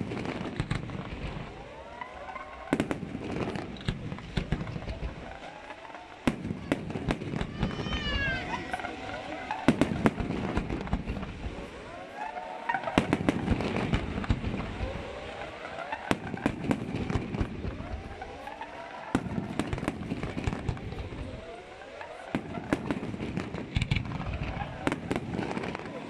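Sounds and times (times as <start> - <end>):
firework bangs: 0.0 - 26.0
firework crackle: 0.0 - 26.0
whistling firework shells: 0.0 - 26.0.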